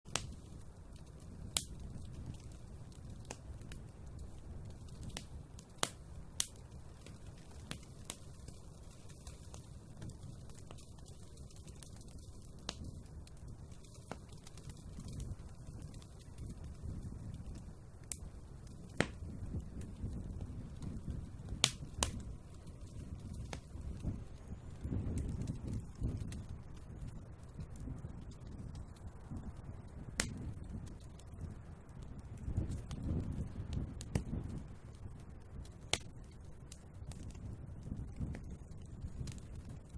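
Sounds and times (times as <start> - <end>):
crackles and pops from burning logs: 0.1 - 39.9
low rumble of flames: 0.1 - 39.9.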